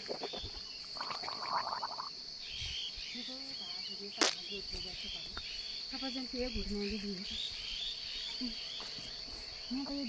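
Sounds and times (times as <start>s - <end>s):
crickets chirping drone: 0.0s - 10.0s.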